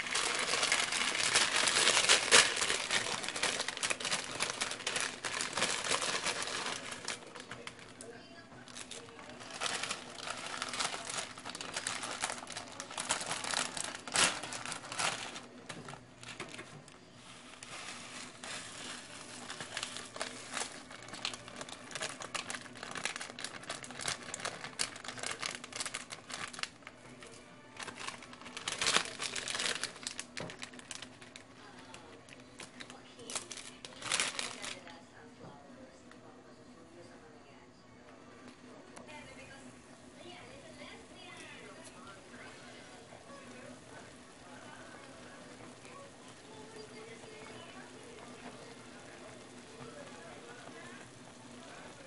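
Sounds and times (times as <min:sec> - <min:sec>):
plastic wrapper crinkling: 0:00.0 - 0:35.0, 0:40.3 - 0:52.0.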